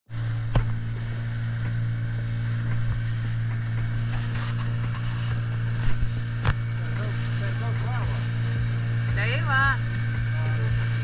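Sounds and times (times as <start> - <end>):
boat engine droning: 0.1 - 11.0.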